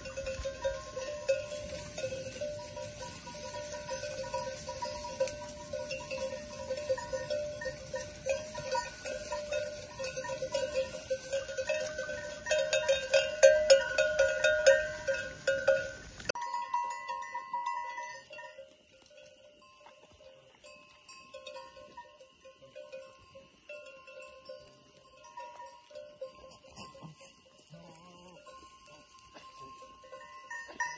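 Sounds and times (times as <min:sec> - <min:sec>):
sheep bells clanking: 0:00.0 - 0:30.9.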